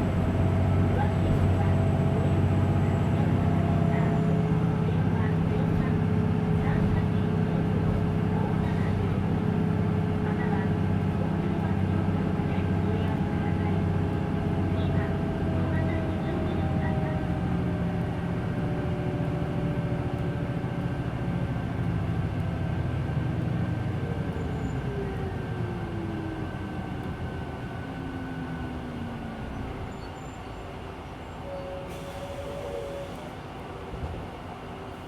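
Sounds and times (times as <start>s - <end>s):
falling whine of slowing bus: 0.0s - 10.1s, 10.8s - 35.0s
bus engine running: 0.0s - 35.0s.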